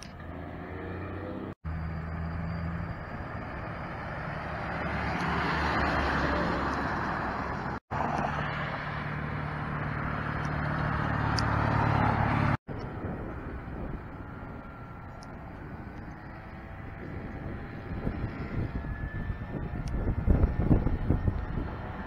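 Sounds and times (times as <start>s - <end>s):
truck approaching with low drone: 0.0s - 22.0s
truck passing: 0.0s - 22.0s.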